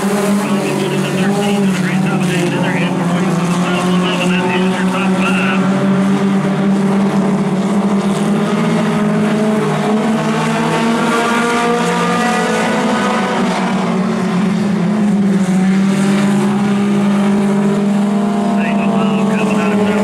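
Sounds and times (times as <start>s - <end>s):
race car engines droning: 0.0s - 20.0s.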